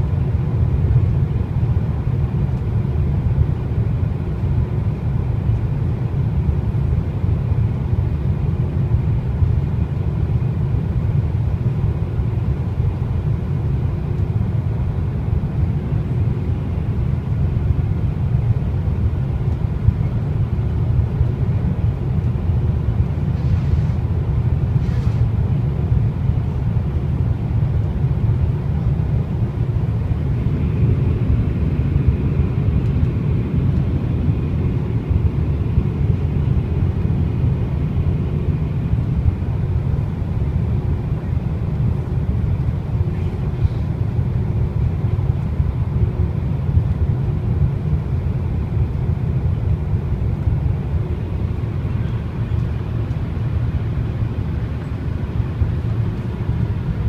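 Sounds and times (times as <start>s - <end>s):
airliner cabin rumble: 0.0s - 57.0s
faint engine whine: 0.0s - 57.0s.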